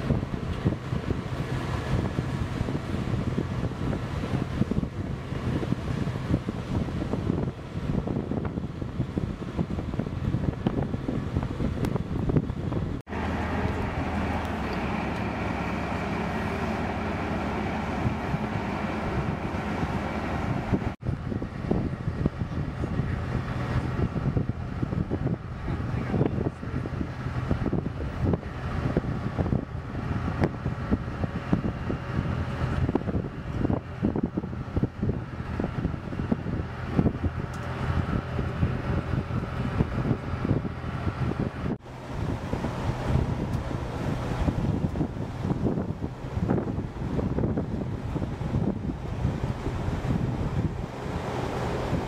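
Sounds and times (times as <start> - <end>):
vehicle engine running: 8.1 - 52.0.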